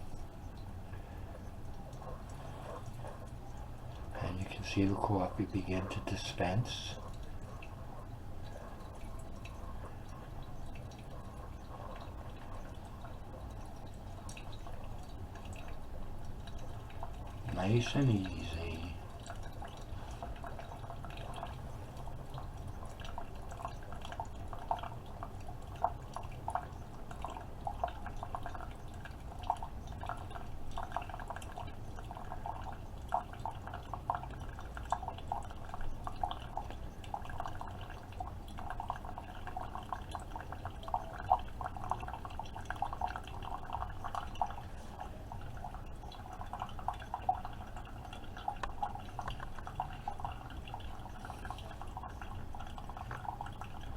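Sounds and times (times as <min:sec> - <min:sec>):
coffee dripping into cup: 0:00.0 - 0:53.9.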